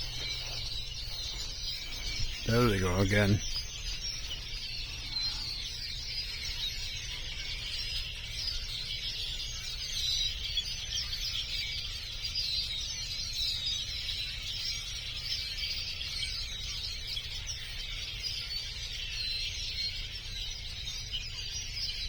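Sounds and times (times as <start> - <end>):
flock of birds chirping: 0.0 - 22.0.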